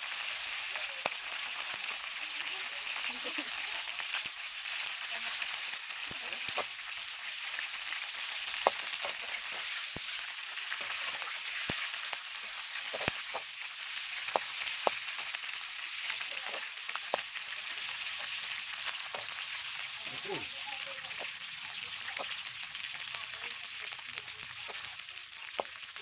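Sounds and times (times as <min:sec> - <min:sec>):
food sizzling in hot oil: 0:00.0 - 0:26.0
oil popping and crackling: 0:00.0 - 0:26.0.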